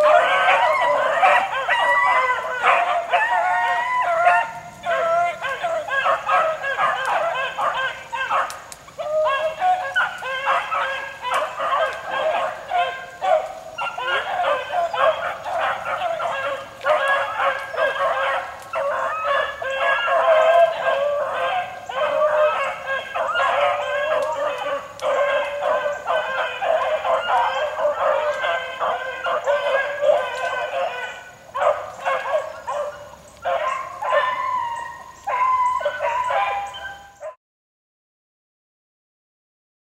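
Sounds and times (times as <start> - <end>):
beagles baying: 0.0 - 37.4.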